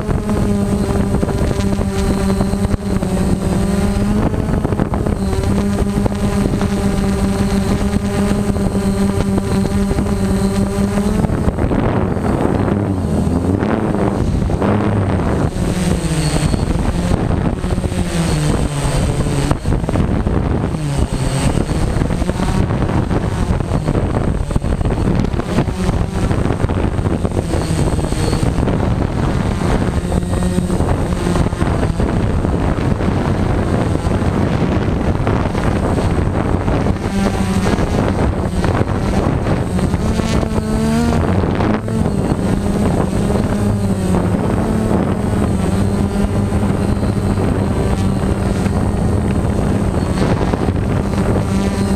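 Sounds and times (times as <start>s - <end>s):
drone propellers whirring: 0.0s - 51.9s.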